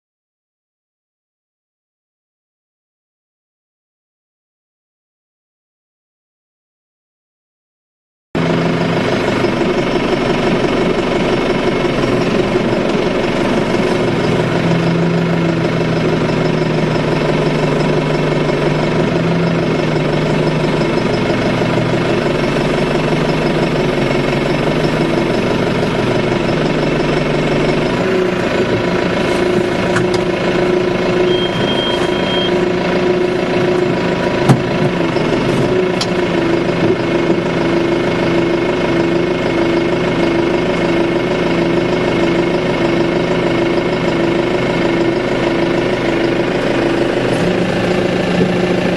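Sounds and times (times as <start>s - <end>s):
tractor engine running: 8.4s - 48.9s.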